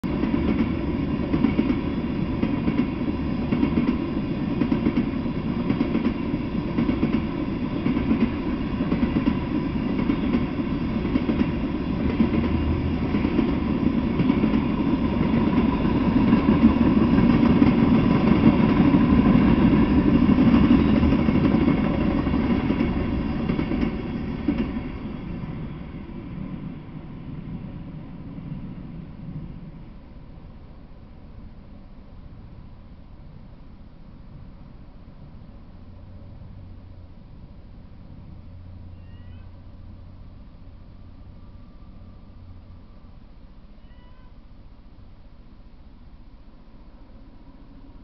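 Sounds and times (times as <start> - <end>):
freight train wheels on track: 0.0 - 43.8.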